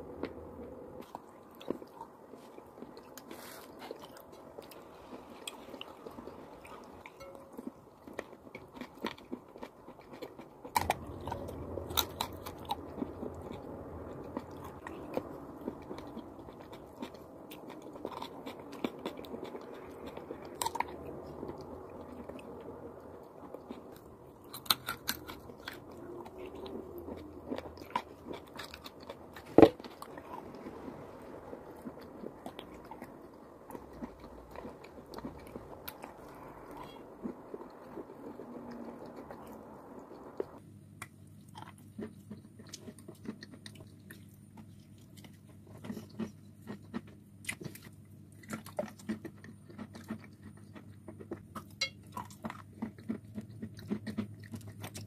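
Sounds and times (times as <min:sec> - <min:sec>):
chewing chalk: 0:00.0 - 0:55.0
crackly crunches: 0:00.0 - 0:55.0.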